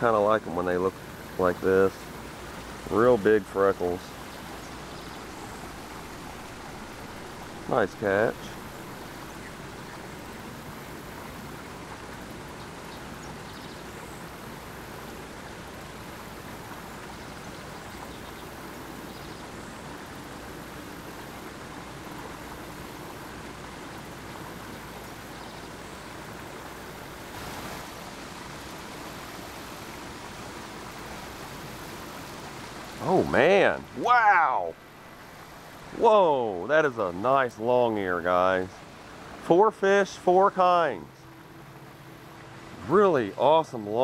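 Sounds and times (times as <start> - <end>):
creek rushing: 0.0 - 44.0.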